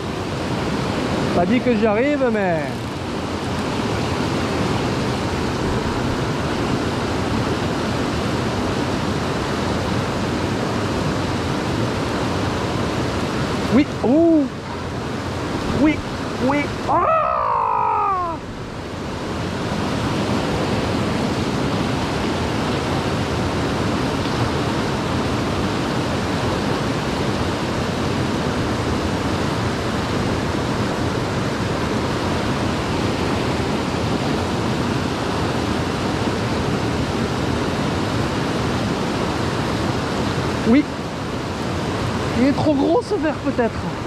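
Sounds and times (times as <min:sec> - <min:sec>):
river water rushing: 0:00.0 - 0:44.0.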